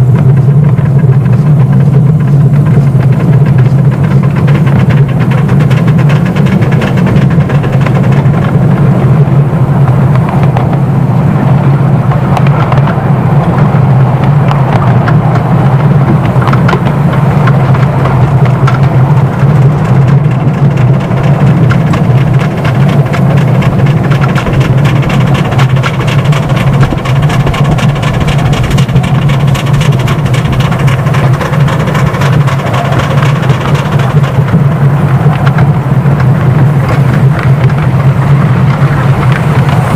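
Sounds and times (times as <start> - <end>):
miniature steam locomotive rumbling: 0.0 - 39.9
rapid clicking of wheels: 0.0 - 39.9.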